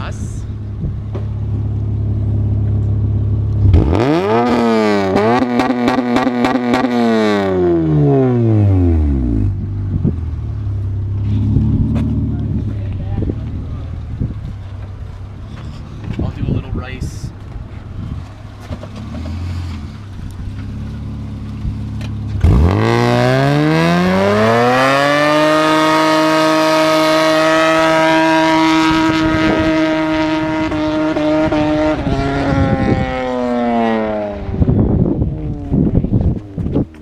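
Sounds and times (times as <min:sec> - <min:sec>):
car engine revving: 0:00.0 - 0:16.2, 0:18.2 - 0:37.0
exhaust cracks: 0:00.0 - 0:37.0.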